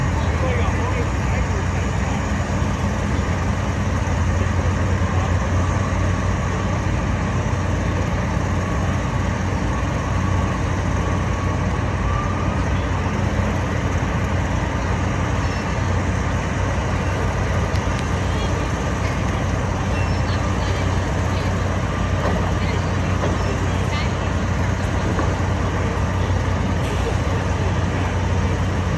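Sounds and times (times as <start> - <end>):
heavy diesel engines droning: 0.0 - 28.9.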